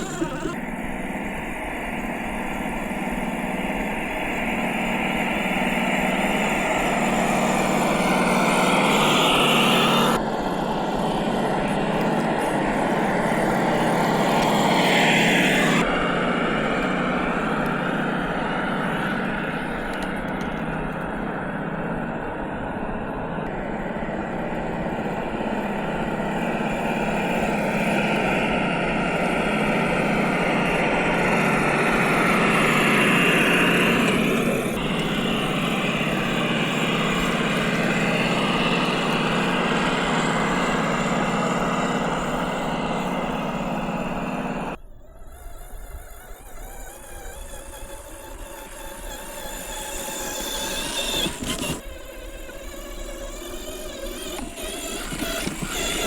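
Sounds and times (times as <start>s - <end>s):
electric motor whine: 0.0s - 56.0s
simulated engine sound: 0.0s - 56.0s.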